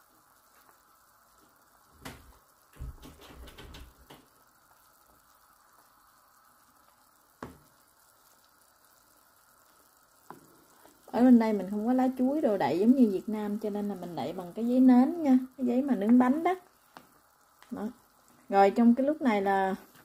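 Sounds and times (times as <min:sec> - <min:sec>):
simmering hiss: 0:00.0 - 0:20.0.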